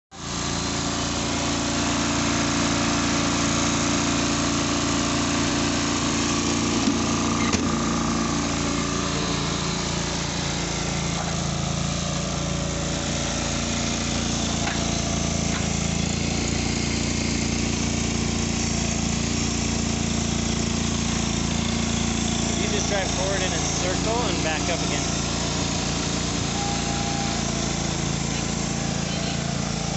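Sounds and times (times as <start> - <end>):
lawn tractor engine running: 0.1 - 29.9.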